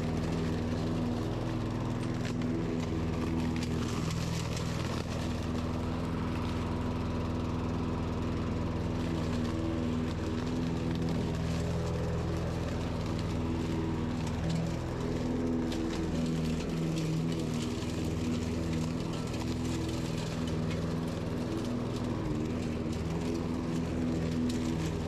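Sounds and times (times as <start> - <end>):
lawn mower cutting grass: 0.0 - 25.0.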